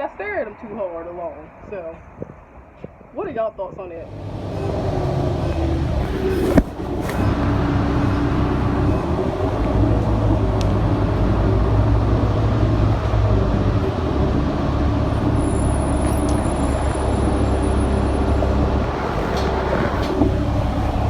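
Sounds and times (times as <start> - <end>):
bus engine humming: 4.0 - 21.0.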